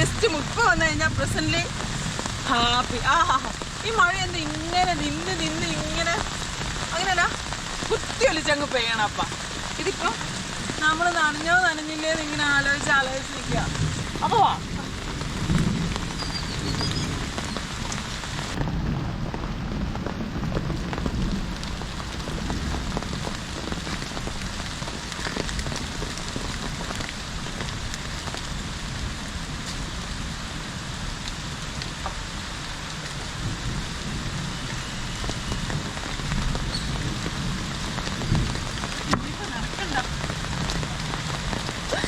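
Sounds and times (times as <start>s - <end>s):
raindrops ticking: 0.0s - 30.0s, 34.6s - 42.0s
rain hiss: 0.0s - 42.0s.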